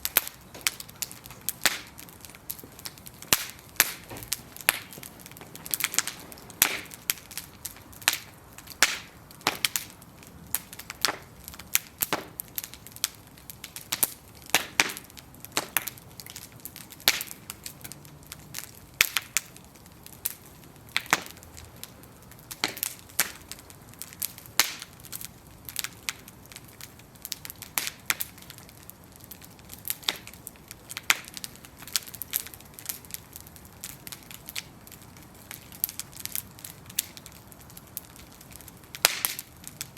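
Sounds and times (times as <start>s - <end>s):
bonfire crackling: 0.0s - 39.9s
wood popping and snapping: 0.0s - 39.9s.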